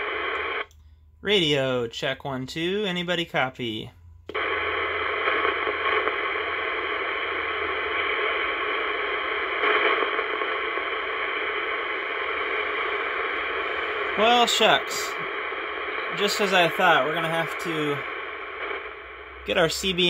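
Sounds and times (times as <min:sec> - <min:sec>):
radio static hiss: 0:00.0 - 0:00.6, 0:04.3 - 0:20.0.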